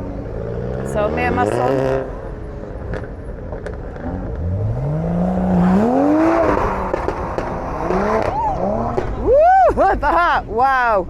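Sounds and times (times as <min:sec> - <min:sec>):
car engine revving: 0:00.0 - 0:09.4
rumble of other engines: 0:00.0 - 0:11.0.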